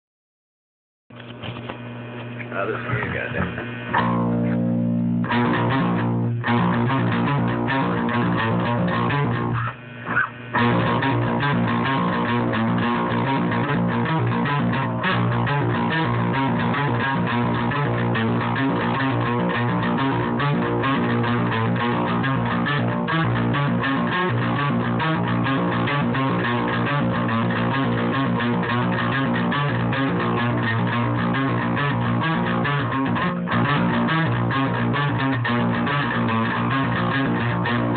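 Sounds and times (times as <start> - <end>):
electric guitar riff: 2.5 - 37.9.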